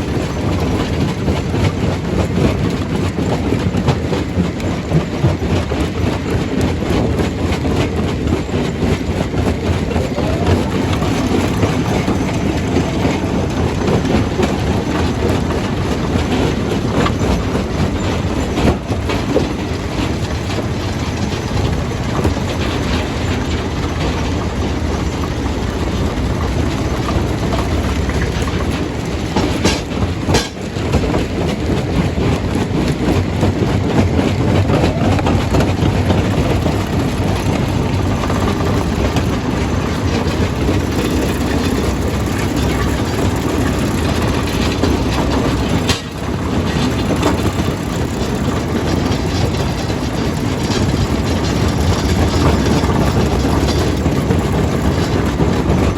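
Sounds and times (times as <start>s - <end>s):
stone crusher rumbling: 0.0s - 55.9s.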